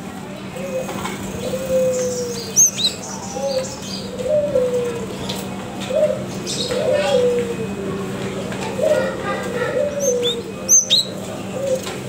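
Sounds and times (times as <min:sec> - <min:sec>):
bird cooing: 0:00.4 - 0:12.0.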